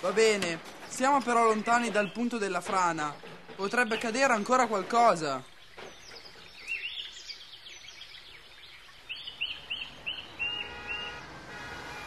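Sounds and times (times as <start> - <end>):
bird chirping: 1.2 - 11.4.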